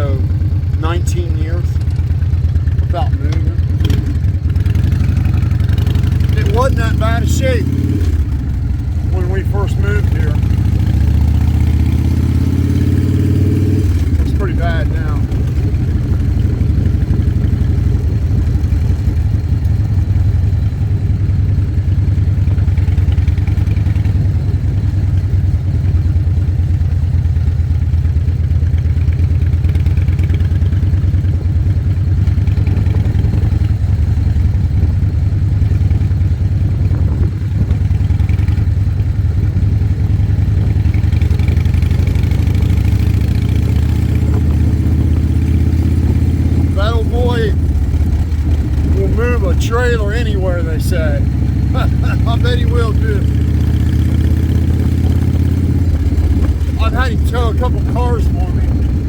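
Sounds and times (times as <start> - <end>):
motorcycle engine throbbing: 0.0 - 59.0.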